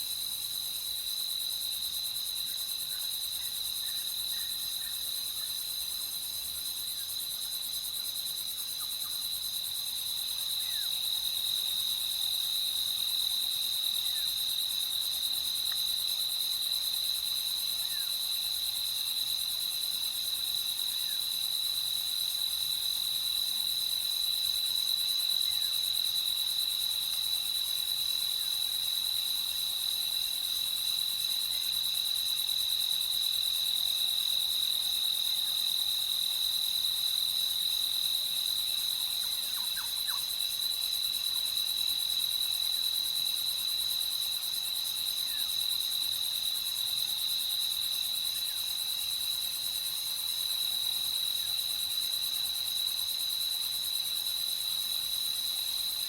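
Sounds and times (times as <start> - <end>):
crickets chirping: 0.0 - 56.0
faint insect or frog calls: 0.0 - 56.0.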